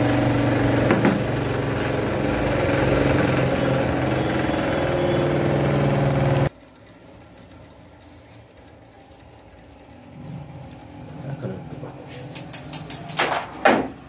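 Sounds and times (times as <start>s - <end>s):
electric sewing machine running: 0.0s - 11.6s.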